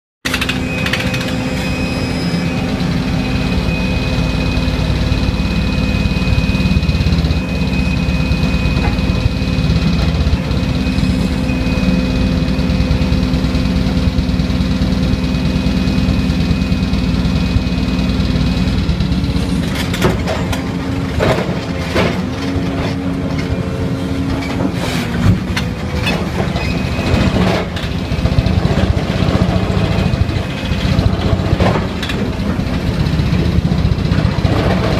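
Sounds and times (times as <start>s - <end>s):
excavator engine: 0.2s - 34.9s
hydraulic ripper hammering hum: 0.2s - 34.9s.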